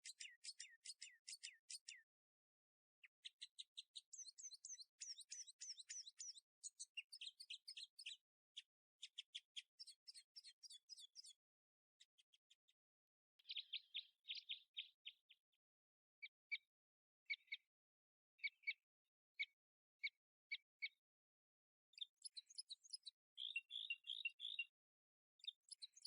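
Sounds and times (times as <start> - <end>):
small birds chirping: 0.0 - 2.2, 3.0 - 12.8, 13.4 - 15.6, 16.2 - 16.7, 17.3 - 17.7, 18.4 - 21.0, 21.9 - 24.8, 25.4 - 26.0.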